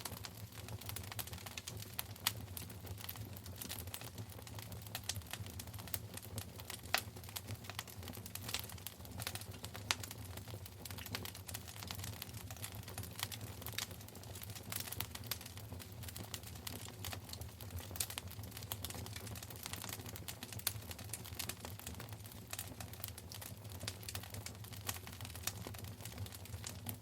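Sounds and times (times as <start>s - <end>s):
fire crackling in a fireplace: 0.0s - 27.0s.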